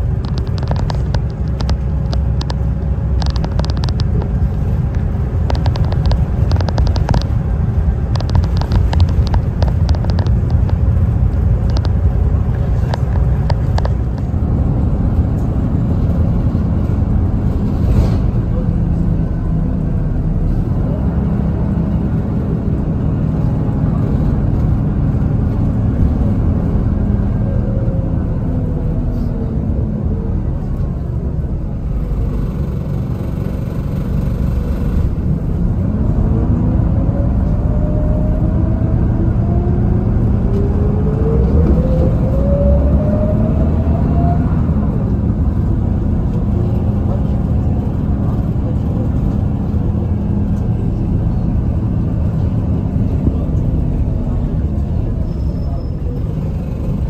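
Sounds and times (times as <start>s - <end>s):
bus engine rumble and whine: 0.0s - 57.0s.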